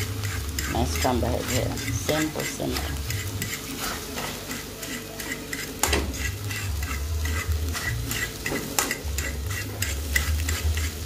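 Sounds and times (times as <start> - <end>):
eggs sizzling in a frying pan: 0.0 - 11.0
spoon scraping a pan: 0.0 - 11.0.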